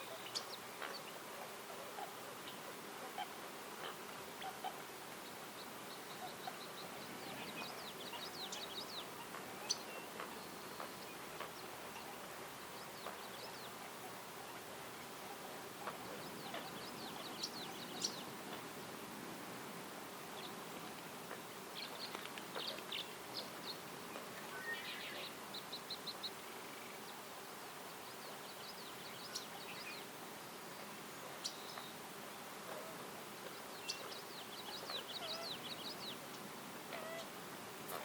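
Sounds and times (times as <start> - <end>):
forest ambience hiss: 0.0 - 38.0
songbirds chirping: 0.0 - 38.0.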